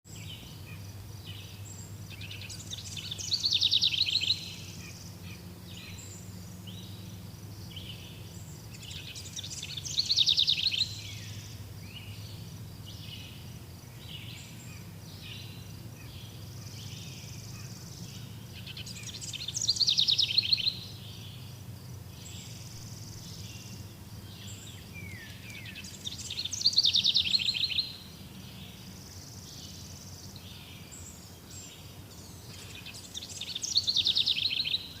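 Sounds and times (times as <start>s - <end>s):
bird singing loud rapid song: 0.1s - 35.0s
faint low hum: 0.1s - 35.0s
soft bird calls: 0.1s - 35.0s.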